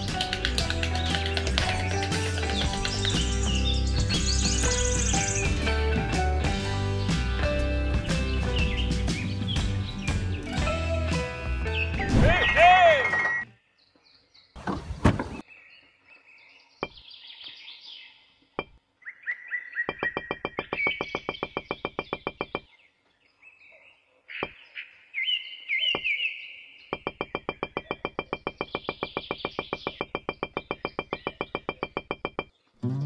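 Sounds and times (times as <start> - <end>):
birds chirping: 0.0 - 10.5, 11.6 - 33.0.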